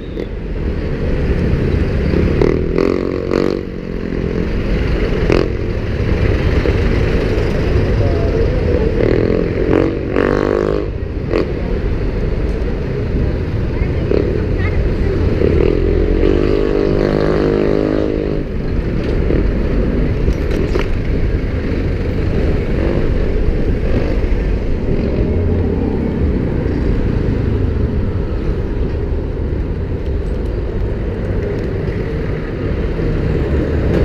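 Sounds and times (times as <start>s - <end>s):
road and wind rumble: 0.0s - 34.0s
passing vehicle engine droning: 0.1s - 34.0s.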